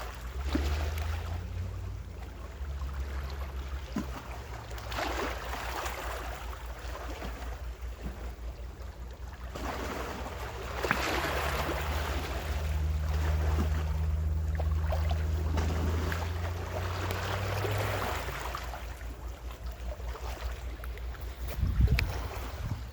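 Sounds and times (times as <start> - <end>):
motor hum: 0.0 - 22.9
ocean waves washing: 0.0 - 22.9.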